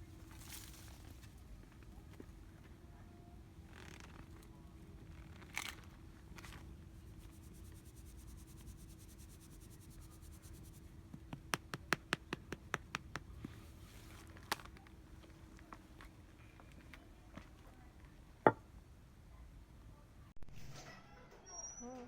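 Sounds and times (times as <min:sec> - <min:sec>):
faint steady hum: 0:00.0 - 0:20.4.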